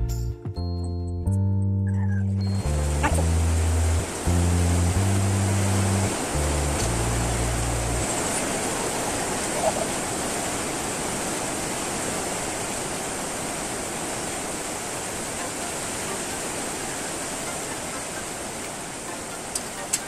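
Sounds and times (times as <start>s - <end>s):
electric fan rushing air: 2.8s - 19.7s.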